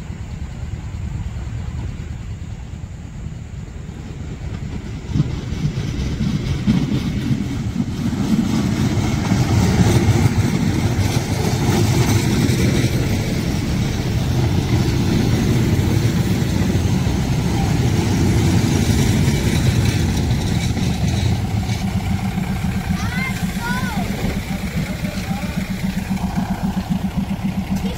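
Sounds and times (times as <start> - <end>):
diesel train engines running: 0.0 - 27.9
train wheels on rails: 0.0 - 27.9.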